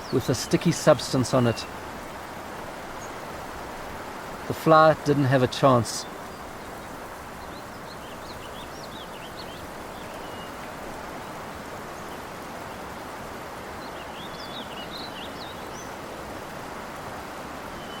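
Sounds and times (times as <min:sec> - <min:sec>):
small birds chirping rapidly: 0:00.0 - 0:12.8, 0:13.8 - 0:16.0
steady outdoor hiss: 0:00.0 - 0:18.0.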